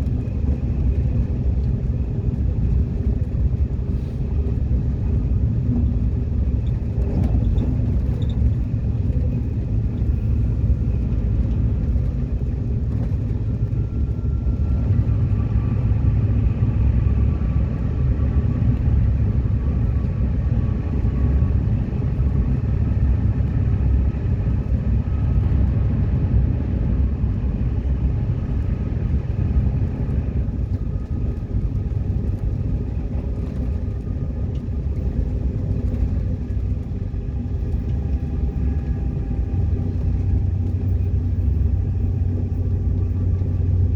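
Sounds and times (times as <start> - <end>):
train rumble inside carriage: 0.0 - 43.9.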